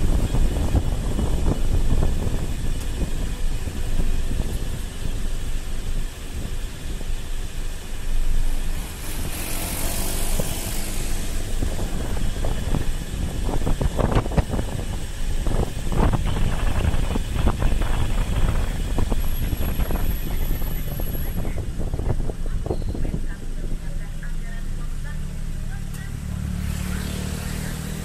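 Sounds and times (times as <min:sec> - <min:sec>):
motorcycle road and engine noise: 0:00.0 - 0:28.0
wind rumbling on microphone: 0:00.0 - 0:28.0.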